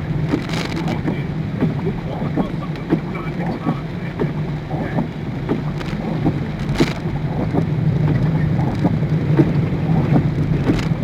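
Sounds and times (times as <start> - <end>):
low drone of car and road: 0.0 - 11.0
rain drops tapping on car: 0.0 - 11.0.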